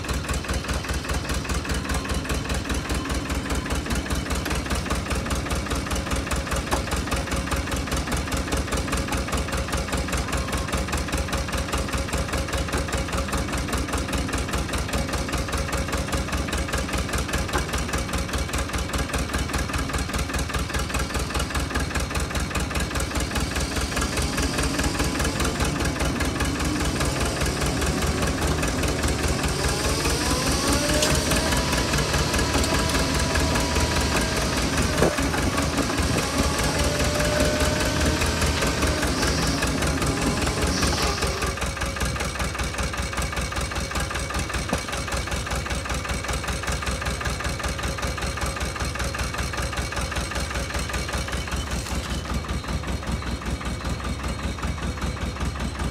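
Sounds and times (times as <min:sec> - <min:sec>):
engine running: 0:00.0 - 0:55.9
spreader drive whine: 0:00.2 - 0:47.0, 0:47.9 - 0:55.9.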